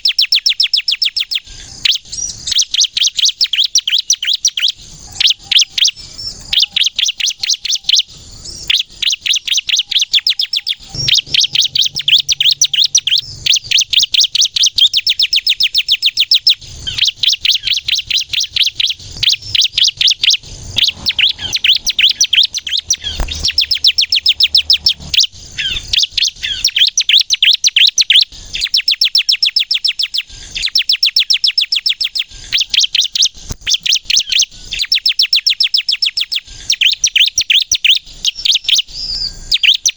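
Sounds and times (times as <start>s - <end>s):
bird high-pitched chattering song: 0.0s - 39.9s.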